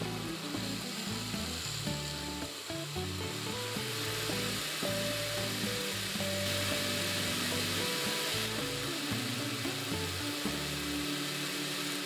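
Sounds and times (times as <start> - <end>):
background music melodic notes: 0.0 - 12.0
electric blender whirring: 0.0 - 12.0.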